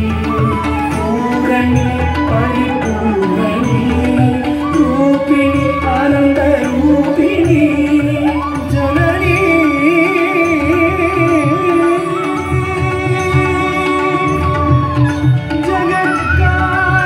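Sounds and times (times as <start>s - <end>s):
wavering melodic line: 0.0s - 17.0s.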